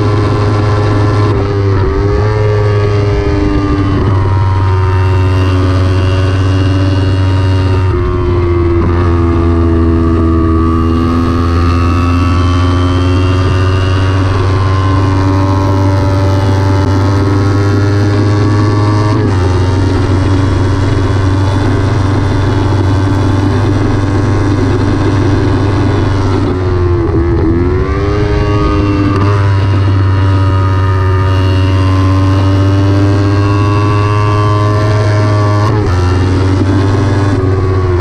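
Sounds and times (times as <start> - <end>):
motorcycle engine at high revs: 0.0 - 38.0.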